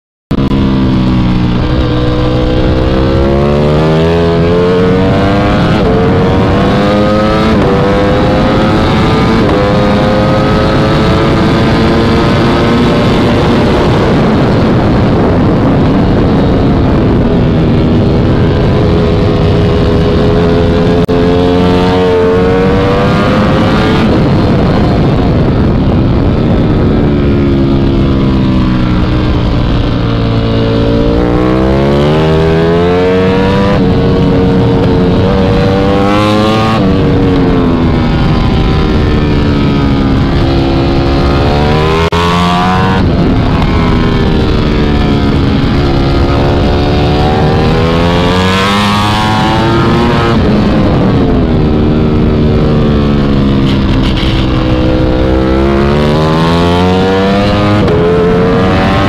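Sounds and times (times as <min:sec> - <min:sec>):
motorcycle engine at full throttle: 0:00.3 - 0:59.0
wind rush: 0:00.3 - 0:59.0.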